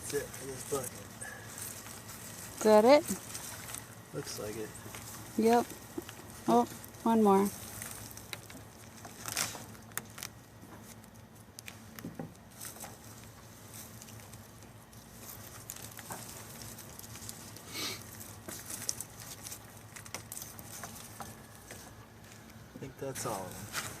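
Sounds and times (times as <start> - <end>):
hands rummaging through soil: 0.0 - 24.0.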